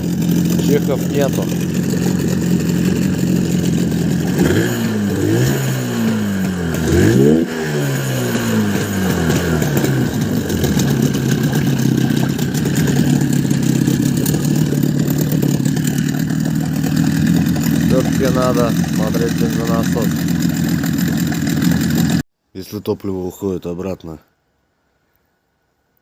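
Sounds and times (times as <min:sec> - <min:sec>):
outboard motor revving and idling: 0:00.0 - 0:22.2.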